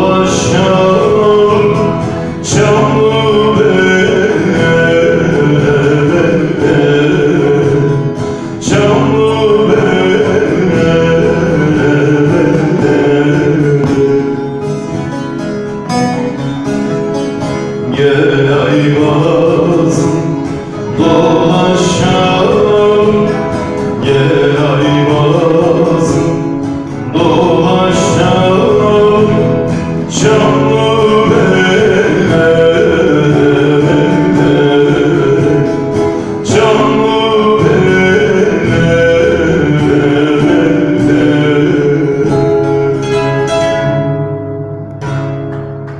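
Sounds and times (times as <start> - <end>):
man singing a folk song: 0.0 - 44.2
plucked string accompaniment: 0.0 - 45.9.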